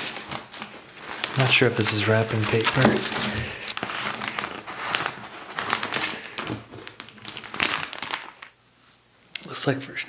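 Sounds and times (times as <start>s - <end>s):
contact paper rustling and crinkling: 0.0s - 9.0s.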